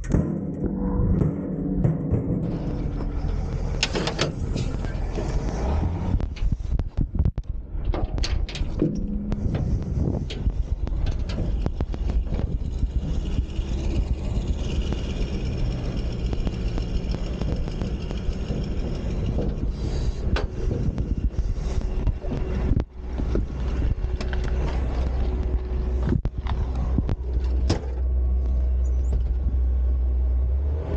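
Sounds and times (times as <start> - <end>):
knocks and rattles: 0.0 - 29.7
dump truck engine drone: 0.0 - 30.9.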